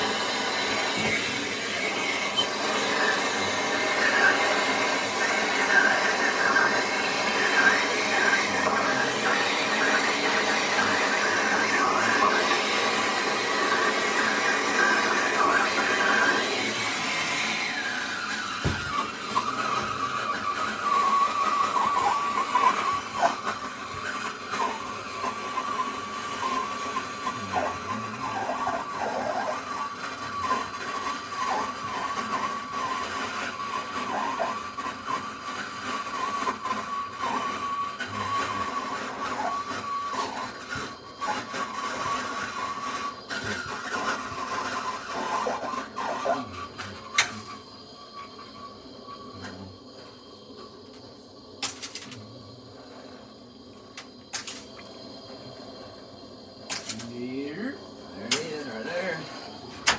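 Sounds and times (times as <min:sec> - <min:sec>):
gas torch flame hissing: 0:00.0 - 0:59.9.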